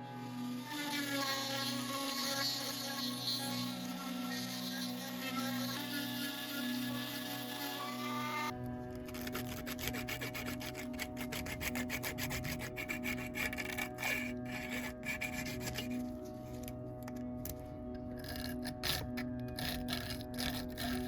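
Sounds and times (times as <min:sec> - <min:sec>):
rapid rubbing strokes: 0:00.0 - 0:16.3, 0:18.2 - 0:21.0.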